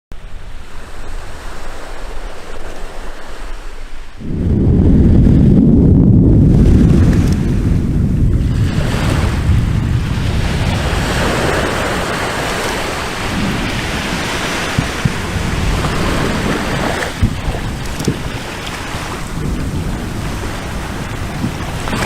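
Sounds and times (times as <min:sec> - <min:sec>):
wind buffeting microphone: 0:00.1 - 0:22.0
volcano rumbling roar: 0:04.2 - 0:22.0.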